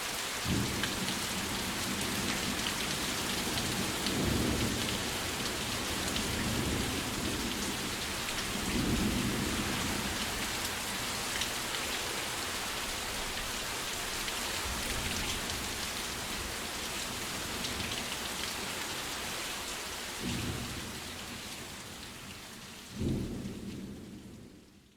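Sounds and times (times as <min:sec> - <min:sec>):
rain downpour hissing: 0:00.0 - 0:24.9.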